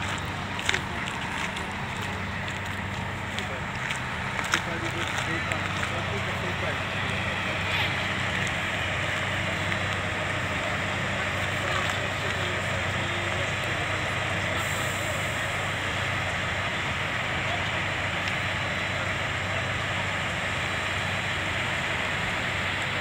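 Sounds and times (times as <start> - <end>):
fire engine hum: 0.0 - 23.0
fire rushing: 0.0 - 23.0.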